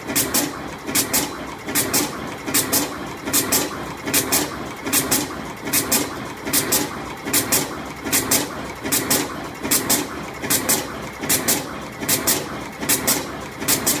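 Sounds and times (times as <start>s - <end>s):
crimping machine sharp clacks: 0.0s - 14.0s.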